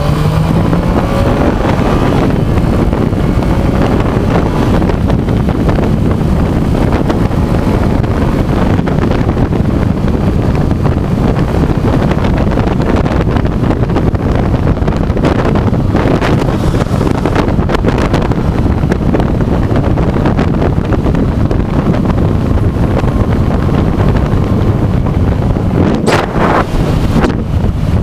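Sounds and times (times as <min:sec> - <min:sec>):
motorcycle and road noise: 0:00.0 - 0:28.0
wind roaring over microphone: 0:00.0 - 0:28.0.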